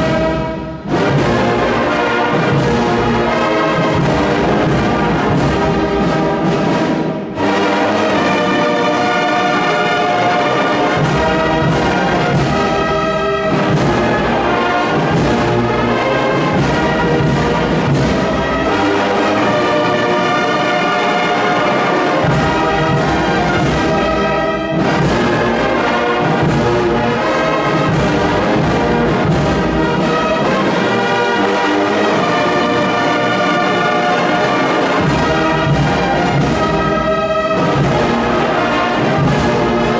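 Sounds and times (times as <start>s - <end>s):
brass band playing a hymn: 0.0s - 39.9s.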